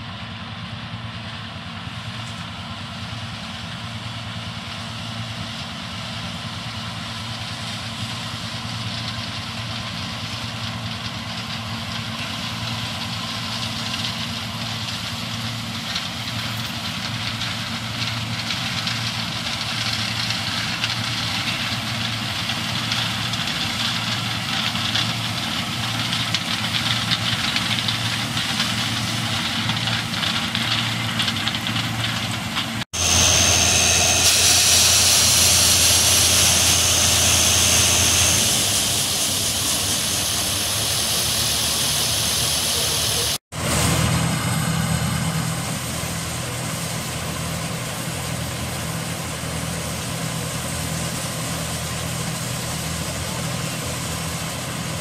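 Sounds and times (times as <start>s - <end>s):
combine harvester engine hum: 0.0s - 55.0s.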